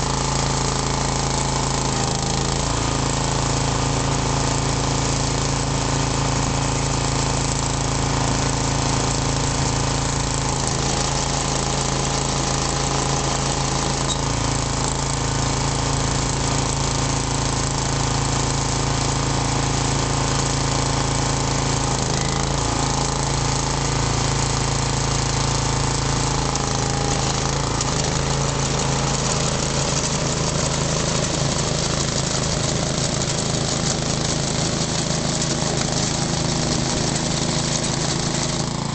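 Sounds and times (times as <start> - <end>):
aerator engine running: 0.0 - 38.9.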